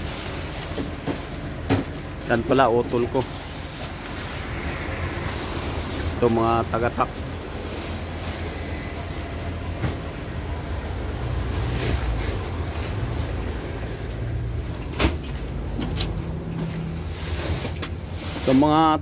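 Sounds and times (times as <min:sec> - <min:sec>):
low engine rumble of vehicles: 0:00.0 - 0:19.0.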